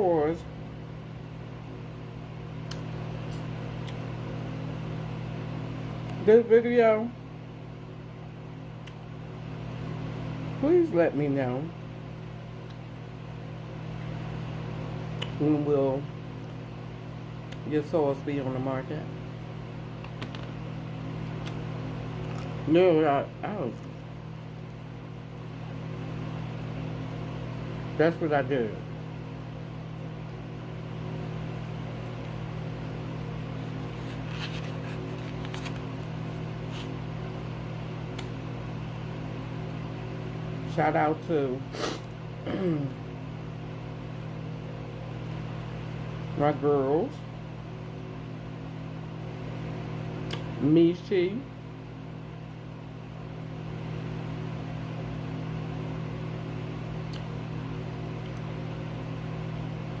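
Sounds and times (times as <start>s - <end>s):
low mechanical hum: 0.0s - 60.0s.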